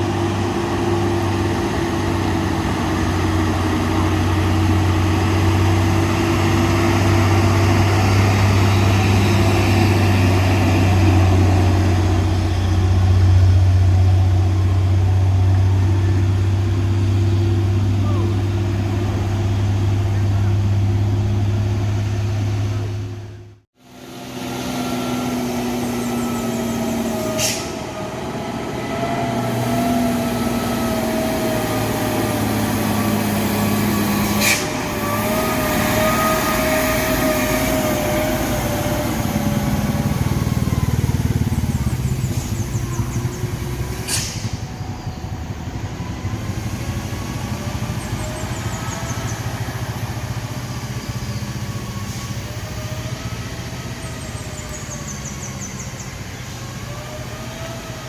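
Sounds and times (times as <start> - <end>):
truck diesel engine: 0.0 - 58.0.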